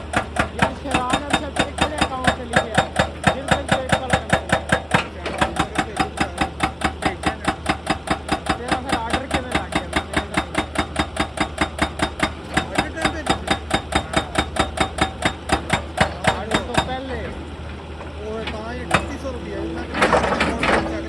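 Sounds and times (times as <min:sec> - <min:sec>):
hydraulic breaker hammering rock: 0:00.0 - 0:17.3, 0:18.5 - 0:21.0.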